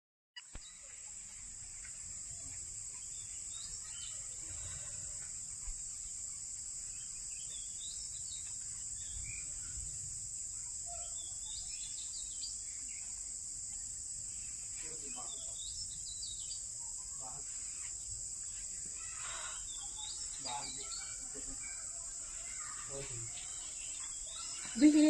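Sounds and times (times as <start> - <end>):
bird chirps: 0.4 - 10.0, 10.6 - 13.2, 14.8 - 25.0
insects droning: 0.4 - 25.0.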